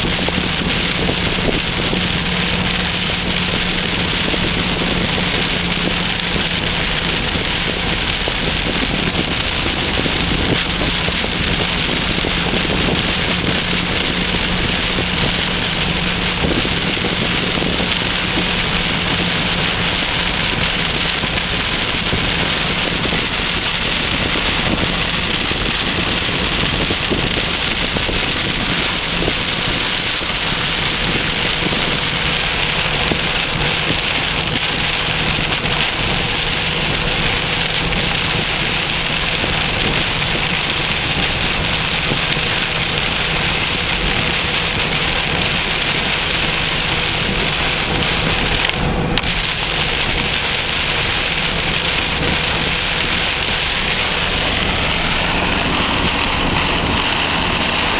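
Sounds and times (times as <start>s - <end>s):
heavy rain on a car: 0.0s - 57.9s.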